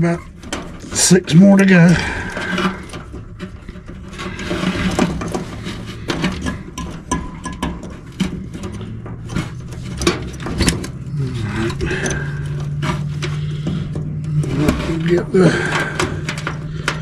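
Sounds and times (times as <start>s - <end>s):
hands working wires clicking: 0.0s - 17.0s.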